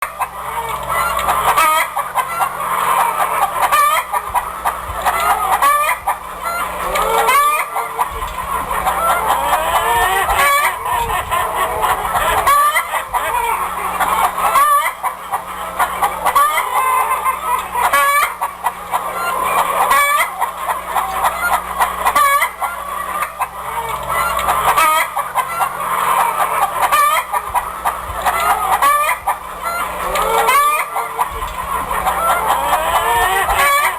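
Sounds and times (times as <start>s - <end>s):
chickens clucking and squawking: 0.0s - 33.9s.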